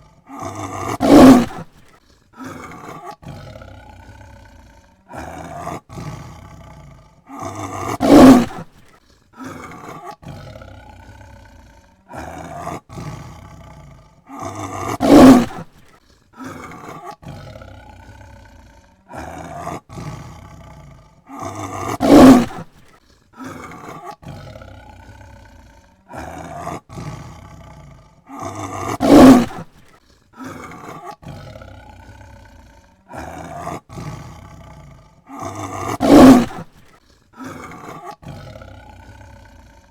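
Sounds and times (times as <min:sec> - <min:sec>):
low tiger calls: 0:00.0 - 0:08.8, 0:09.4 - 0:15.8, 0:16.4 - 0:22.7, 0:23.4 - 0:29.7, 0:30.4 - 0:36.9
tiger roaring: 0:00.0 - 0:39.9.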